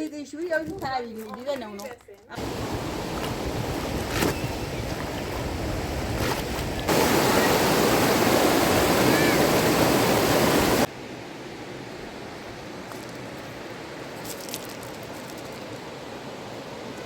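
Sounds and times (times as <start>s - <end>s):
rushing river water: 2.4s - 17.0s.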